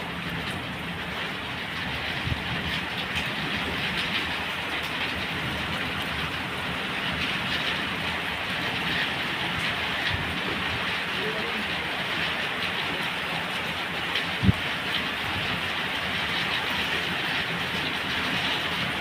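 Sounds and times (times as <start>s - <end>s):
rain hissing: 0.0s - 19.0s
raindrop ticks: 0.0s - 19.0s.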